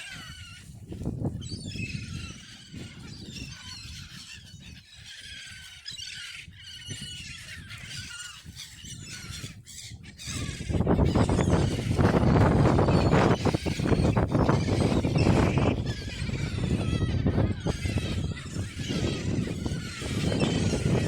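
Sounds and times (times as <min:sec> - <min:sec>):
waterbirds squealing and squawking: 0:00.0 - 0:21.0.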